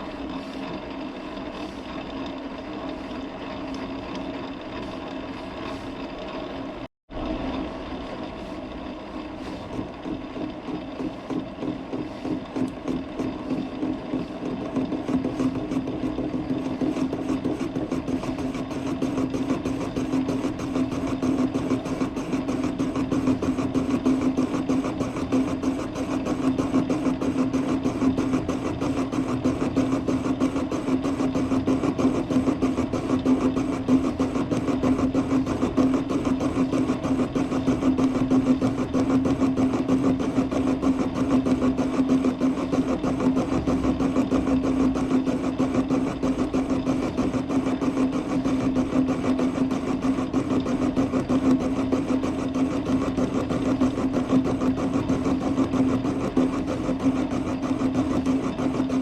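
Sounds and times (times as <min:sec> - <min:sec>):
metal lathe humming: 0:00.0 - 0:59.0.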